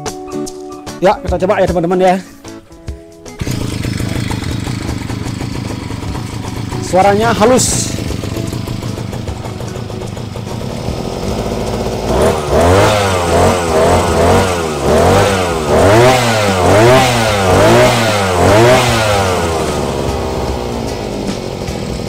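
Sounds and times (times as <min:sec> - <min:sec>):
brush cutter engine revving: 0:03.4 - 0:22.0.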